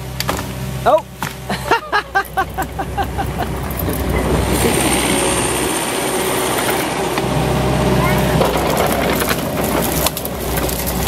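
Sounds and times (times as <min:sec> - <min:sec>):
diesel engine running: 0:00.0 - 0:11.0
tracks crushing brush: 0:01.2 - 0:11.0.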